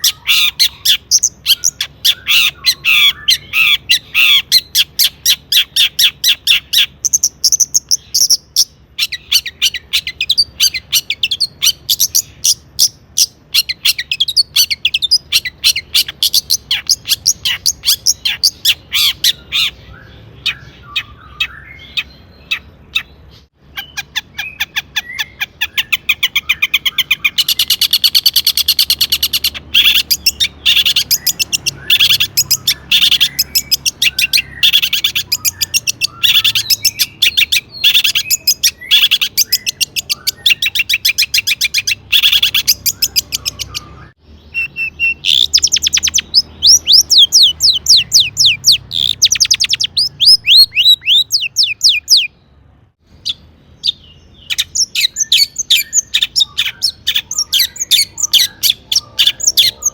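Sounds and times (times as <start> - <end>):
shrike singing harsh trills: 0.0 - 59.9.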